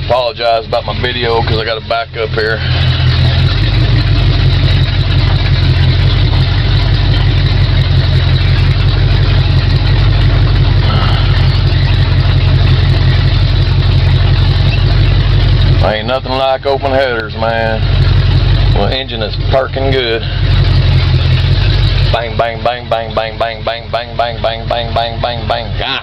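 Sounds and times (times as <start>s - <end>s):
deep loud engine running: 0.0s - 26.0s.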